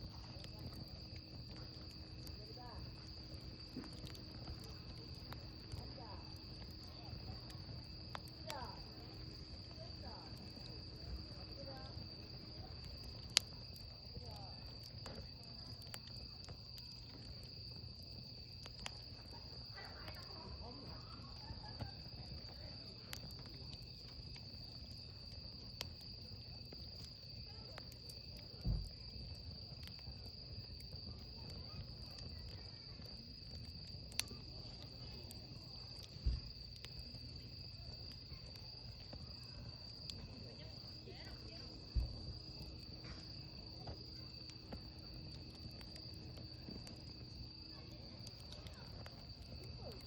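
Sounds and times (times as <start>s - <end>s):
crickets chirring: 0.0s - 50.0s
wood fire crackling and popping: 0.0s - 50.0s.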